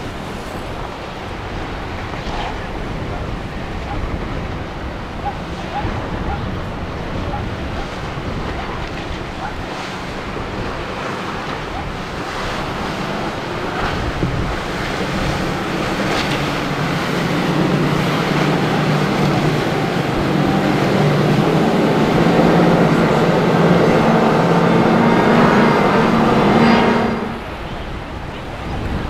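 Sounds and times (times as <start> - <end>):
motorboat engine running: 0.0 - 29.0
waves washing: 0.0 - 29.0
wind buffeting microphone: 0.0 - 29.0.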